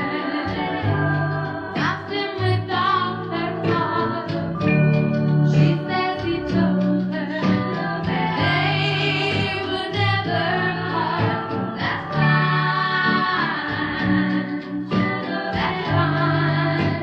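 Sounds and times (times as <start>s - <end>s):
backing vocals: 0.0s - 17.0s
bass line: 0.0s - 17.0s
woman singing lead vocal: 0.0s - 17.0s.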